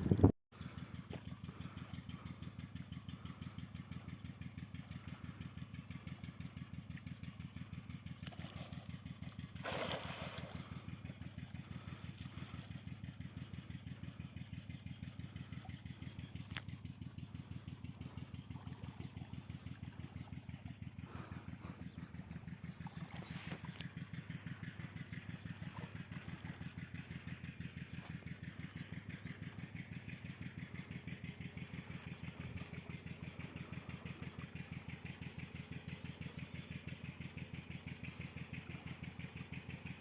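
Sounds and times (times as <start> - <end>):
small engine idling: 0.0 - 40.0.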